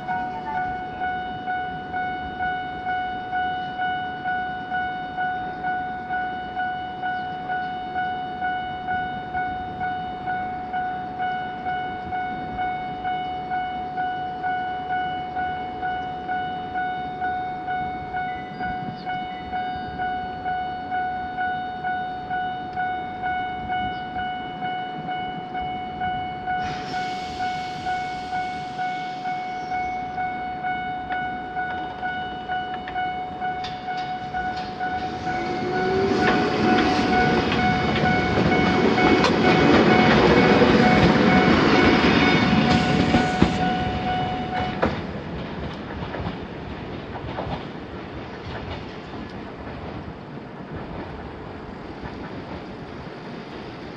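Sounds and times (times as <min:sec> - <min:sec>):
level crossing alarm bell dinging: 0:00.0 - 0:45.0
train running noise: 0:00.0 - 0:53.9.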